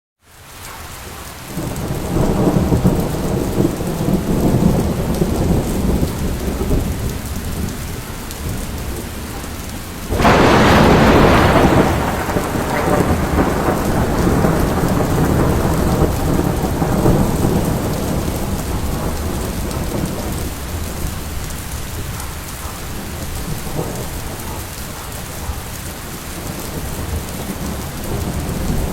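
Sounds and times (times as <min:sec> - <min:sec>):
rain falling: 0:00.2 - 0:28.9
thunder rumbling: 0:01.0 - 0:28.9
loud thunderclap: 0:01.5 - 0:28.9.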